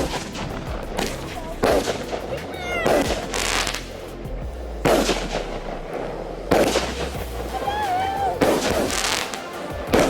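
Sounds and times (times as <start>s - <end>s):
firework shots: 0.0s - 10.0s.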